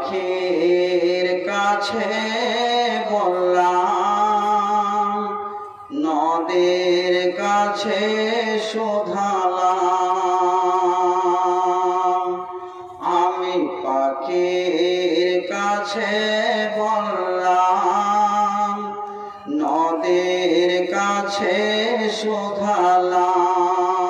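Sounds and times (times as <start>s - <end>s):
man chanting into a microphone: 0.0s - 24.0s.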